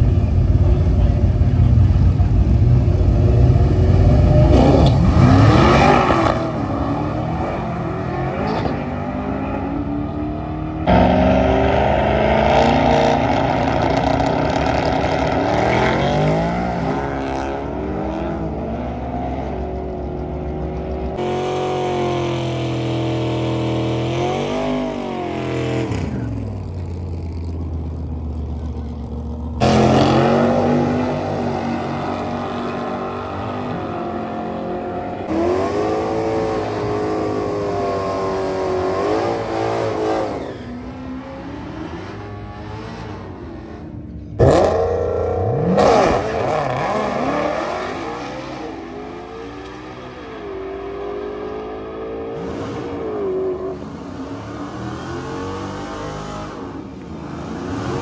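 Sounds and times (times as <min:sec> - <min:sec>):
drag racing car engines revving: 0:00.0 - 0:58.0.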